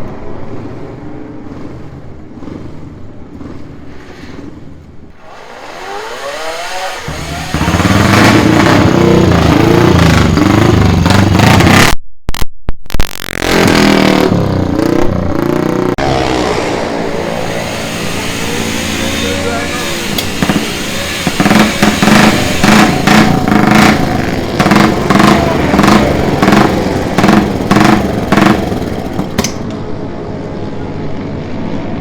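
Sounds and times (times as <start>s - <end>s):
motorcycles revving and passing: 0.0s - 11.9s, 13.5s - 29.9s.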